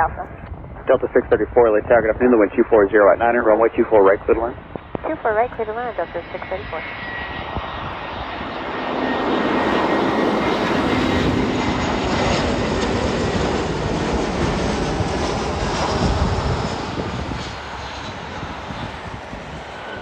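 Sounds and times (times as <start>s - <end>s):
jet airliner landing: 0.0s - 20.0s.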